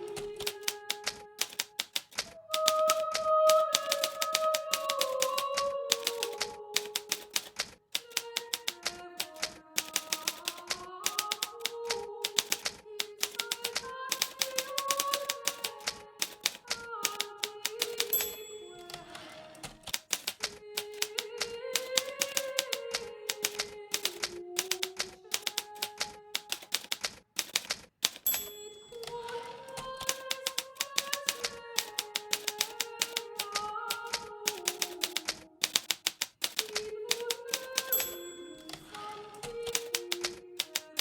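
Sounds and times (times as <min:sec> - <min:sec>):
typewriter keystroke clicks: 0:00.0 - 0:41.0.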